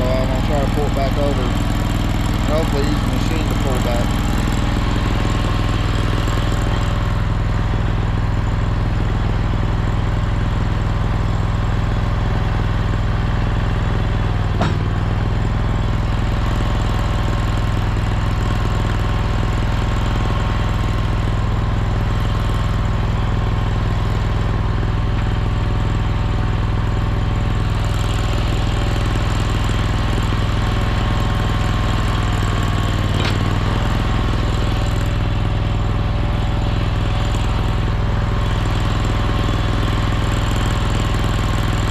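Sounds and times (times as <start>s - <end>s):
small engine running: 0.0s - 41.9s.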